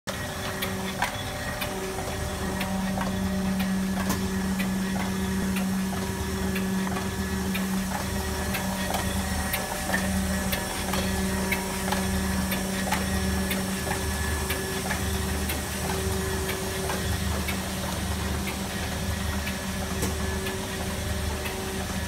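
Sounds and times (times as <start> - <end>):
machine hum: 0.1 - 22.0.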